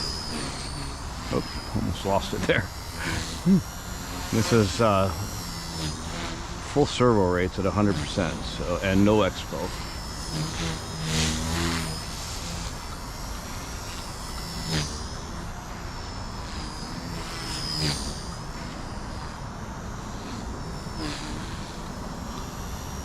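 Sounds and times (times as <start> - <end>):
constant rushing noise: 0.0 - 23.0
rc helicopter rotor whine: 0.0 - 23.0.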